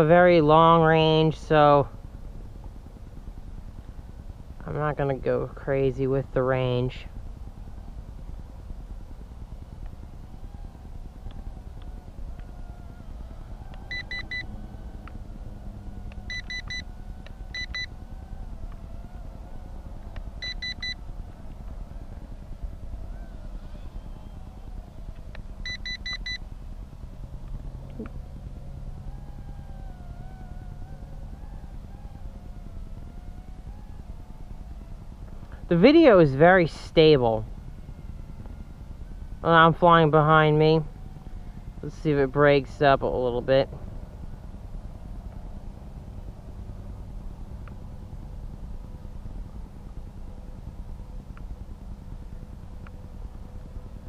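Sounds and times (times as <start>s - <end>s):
steady low rumble: 0.0s - 54.0s
micro quadcopter motors whining: 6.4s - 26.5s, 27.1s - 54.0s.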